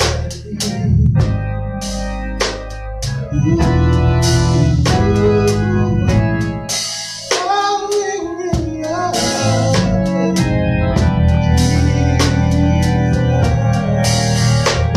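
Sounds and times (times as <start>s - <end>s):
drum kit steady beat: 0.0s - 14.9s
sustained organ chords: 0.0s - 14.9s.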